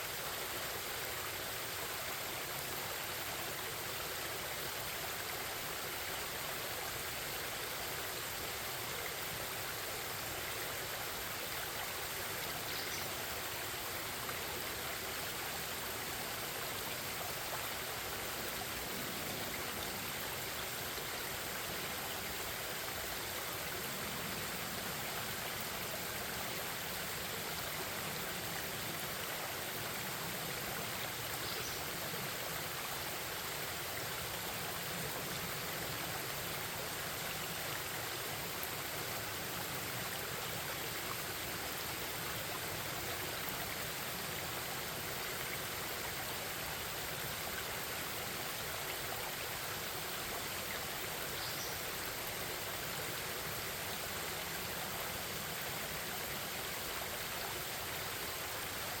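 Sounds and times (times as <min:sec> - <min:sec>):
stream babbling over rocks: 0:00.0 - 0:59.0.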